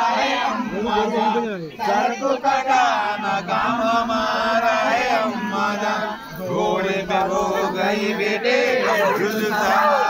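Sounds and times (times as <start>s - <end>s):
men chanting together: 0.0s - 10.0s.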